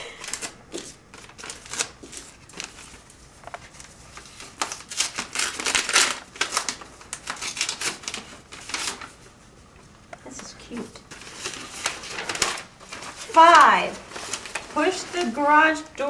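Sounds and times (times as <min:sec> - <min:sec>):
envelope tearing: 0:00.0 - 0:09.2, 0:11.1 - 0:15.5
paper rustling: 0:00.0 - 0:16.0.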